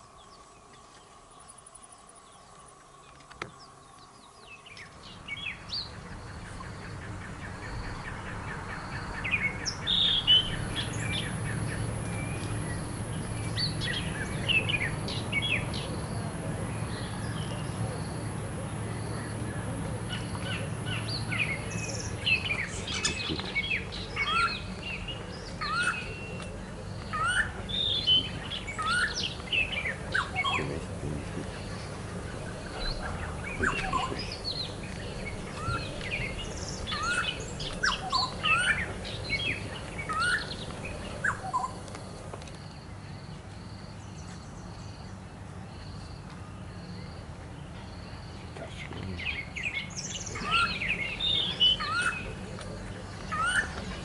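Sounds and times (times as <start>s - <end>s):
birds singing and calling: 0.0s - 54.0s
faint low hum: 0.0s - 54.0s.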